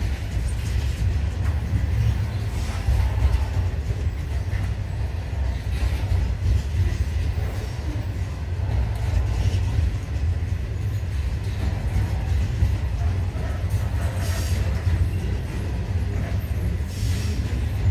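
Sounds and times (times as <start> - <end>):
freight train wheels rumbling: 0.0 - 17.9.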